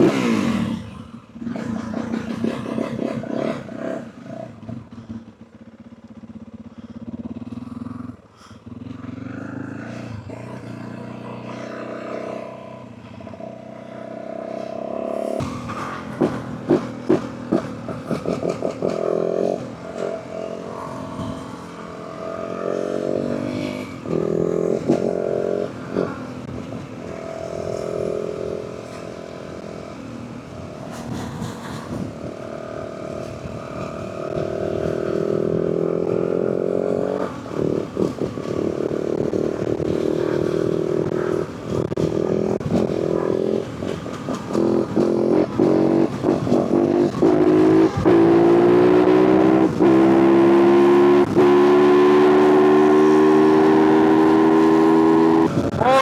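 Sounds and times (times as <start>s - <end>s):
dirt bike engine accelerating: 0.0s - 56.0s.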